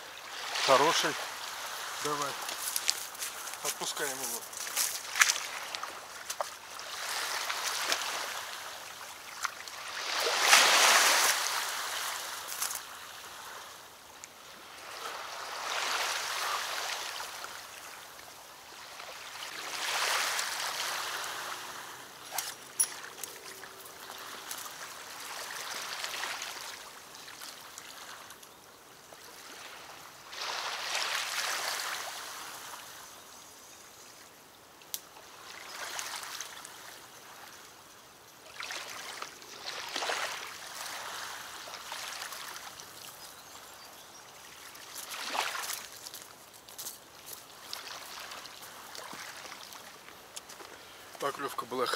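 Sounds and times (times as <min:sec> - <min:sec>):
small waves washing ashore: 0:00.0 - 0:51.9.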